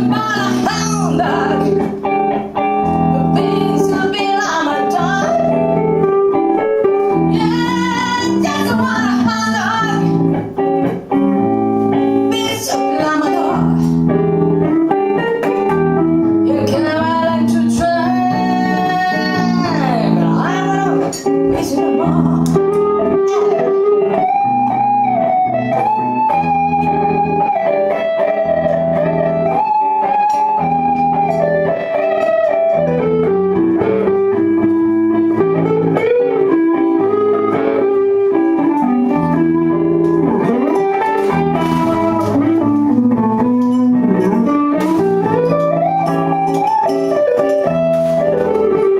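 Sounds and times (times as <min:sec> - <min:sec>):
bluesy guitar solo: 0:00.0 - 0:48.9
live band playing: 0:00.0 - 0:48.9.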